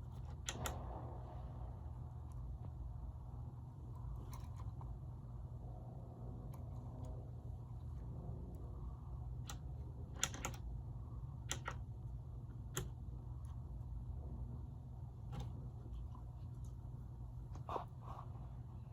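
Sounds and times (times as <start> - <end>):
low hum: 0.0 - 18.9.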